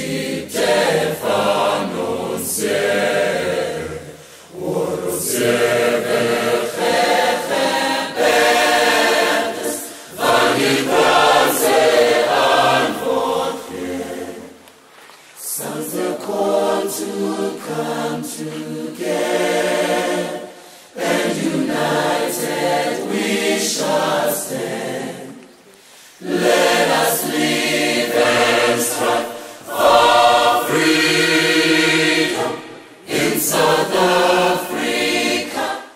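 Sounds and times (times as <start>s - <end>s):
choir singing: 0.0s - 14.8s, 15.4s - 35.9s.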